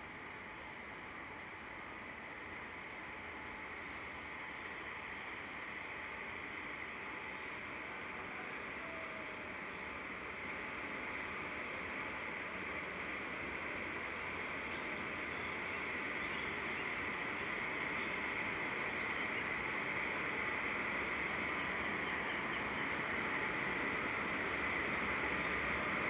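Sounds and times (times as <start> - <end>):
train running on track: 0.0 - 26.0.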